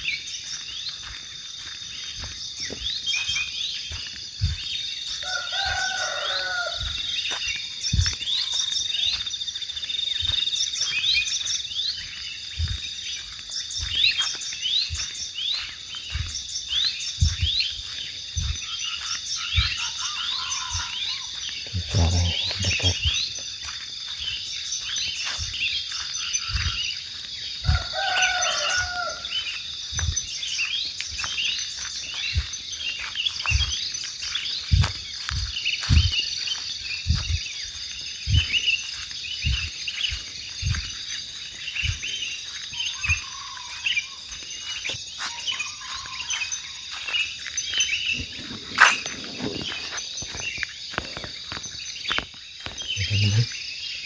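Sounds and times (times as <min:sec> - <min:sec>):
insect drone: 0:00.0 - 0:54.0
frog chirps and calls: 0:06.1 - 0:54.0.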